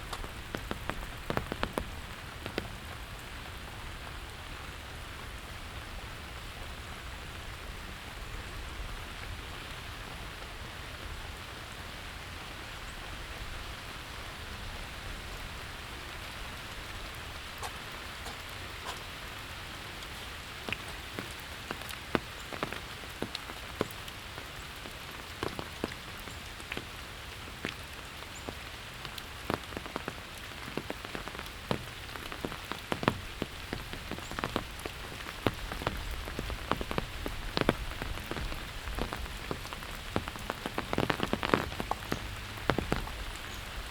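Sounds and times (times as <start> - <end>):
rain hissing on the ground: 0.0 - 43.9.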